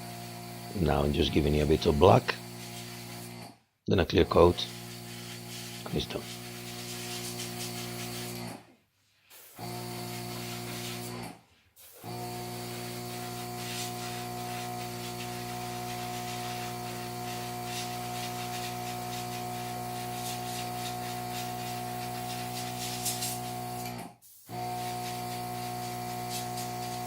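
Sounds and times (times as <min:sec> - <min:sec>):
air compressor humming: 0:00.0 - 0:03.5, 0:04.2 - 0:08.6, 0:09.6 - 0:27.0
spray hissing: 0:00.9 - 0:03.3, 0:04.3 - 0:08.4, 0:09.3 - 0:11.2, 0:11.8 - 0:23.6, 0:24.2 - 0:27.0.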